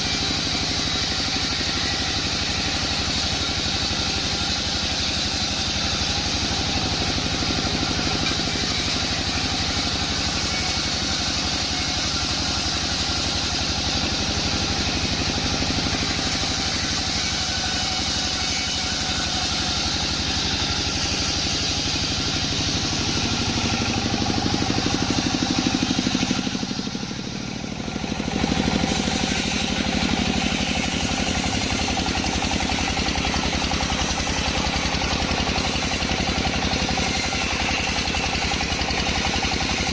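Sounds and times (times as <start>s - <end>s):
bandsaw machinery drone: 0.0s - 39.9s.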